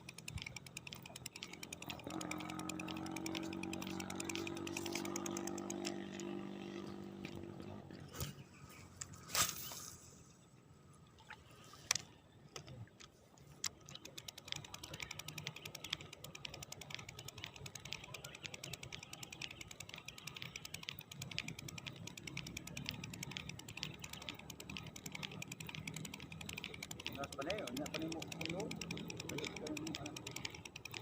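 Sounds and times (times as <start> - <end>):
separate clicks: 0.0 - 9.2, 11.8 - 31.0
fishing reel ticking: 0.0 - 9.9, 11.8 - 31.0.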